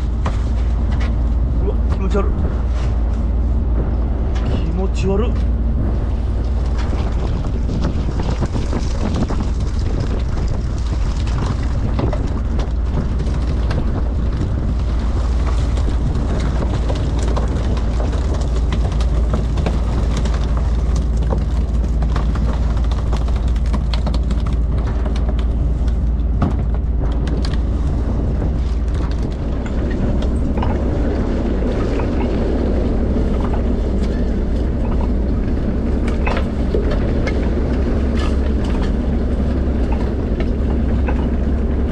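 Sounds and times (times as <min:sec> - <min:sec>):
boat diesel engine drone: 0:00.0 - 0:41.9.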